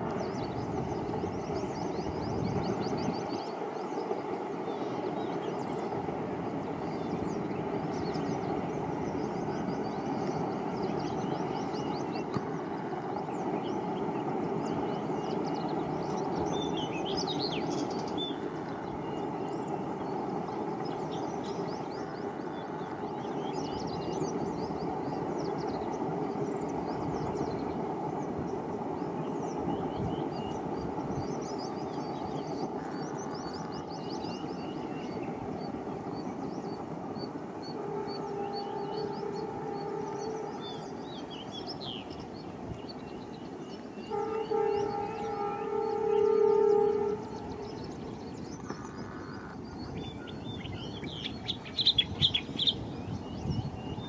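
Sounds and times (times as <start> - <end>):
distant diesel train rumbling: 0.0 - 54.0
birds chirping: 0.1 - 54.0.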